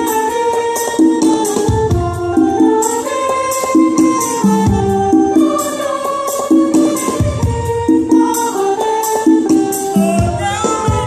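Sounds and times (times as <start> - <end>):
hand percussion beat: 0.0 - 11.0.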